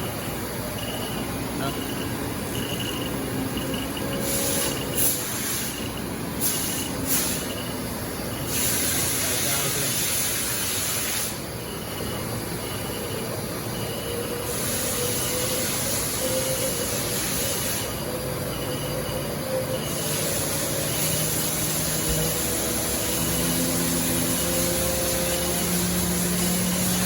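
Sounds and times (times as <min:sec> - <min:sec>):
machine spindle whine and hum: 0:00.0 - 0:27.0.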